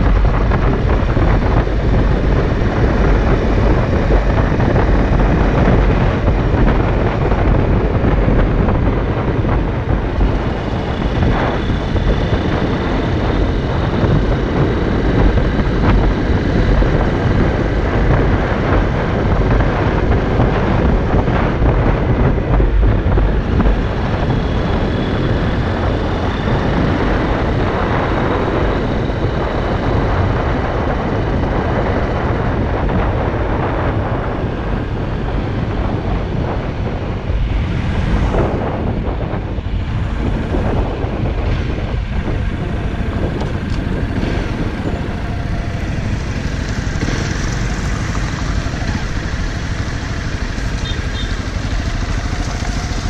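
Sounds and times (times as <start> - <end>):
motorcycle engine running: 0.0 - 53.0
wind rush on microphone: 0.0 - 53.0.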